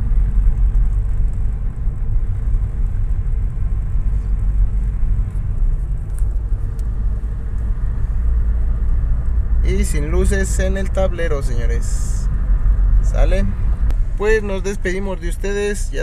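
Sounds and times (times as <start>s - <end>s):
car engine and road noise rumble: 0.0s - 16.0s.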